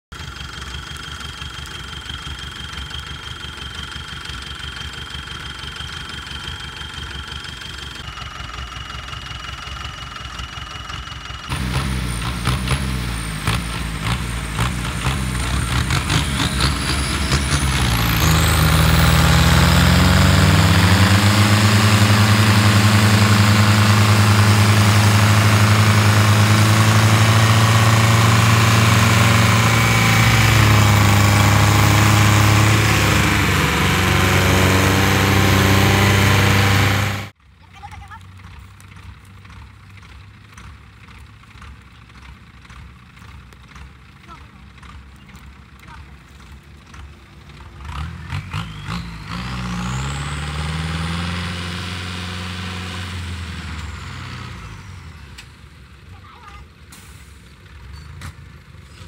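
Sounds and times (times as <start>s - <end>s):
tractor diesel engines revving: 0.0s - 59.0s.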